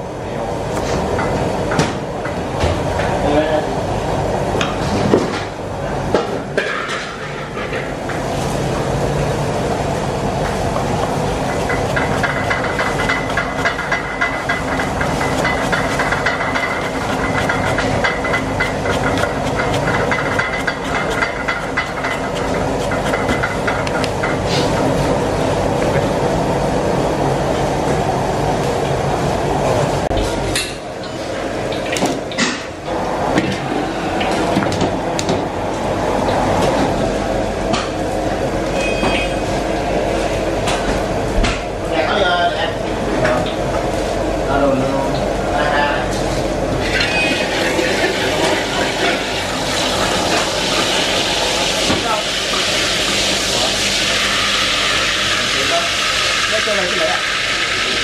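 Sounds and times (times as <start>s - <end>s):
gas burners roaring: 0.0s - 58.0s.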